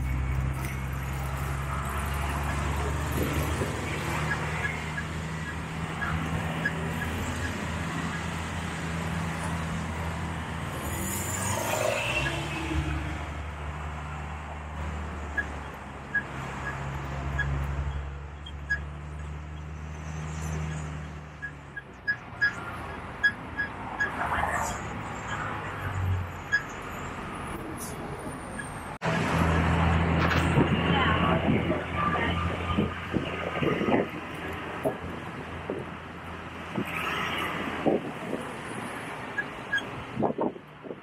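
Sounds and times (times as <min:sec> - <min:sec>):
bus engine drone: 0:00.0 - 0:41.0.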